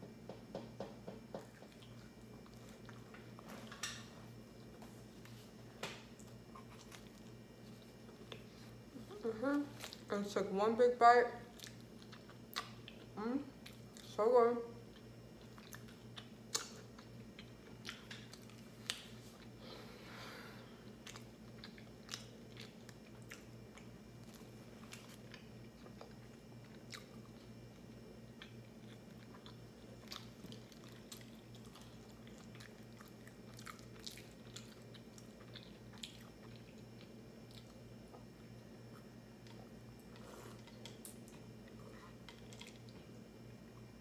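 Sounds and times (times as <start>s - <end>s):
chewing food: 1.4s - 3.5s, 6.0s - 10.1s, 11.4s - 14.2s, 14.8s - 19.6s, 20.8s - 43.9s.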